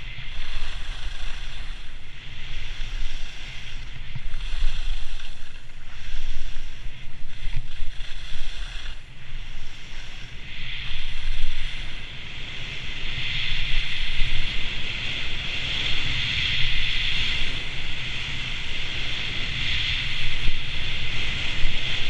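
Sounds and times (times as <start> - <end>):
skis scraping on hard snow: 0.0 - 22.0
wind rumble on microphone: 0.0 - 22.0.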